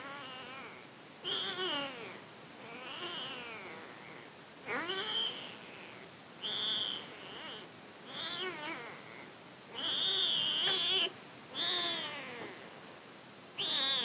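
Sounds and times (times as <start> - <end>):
kitten meowing: 0.1 - 4.0, 4.7 - 12.7, 13.6 - 14.0.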